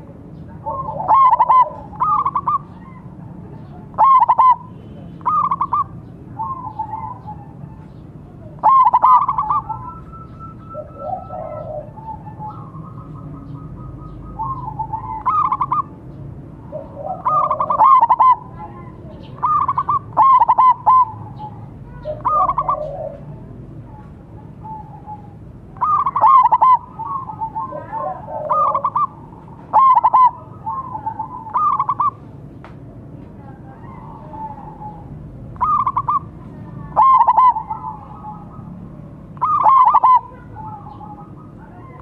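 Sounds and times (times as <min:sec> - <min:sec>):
doves cooing: 0:00.0 - 0:32.4, 0:33.4 - 0:42.0.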